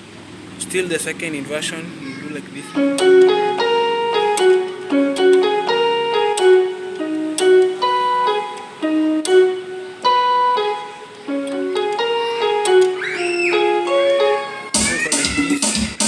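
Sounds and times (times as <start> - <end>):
keyboard playing piano chords: 2.3 - 16.0.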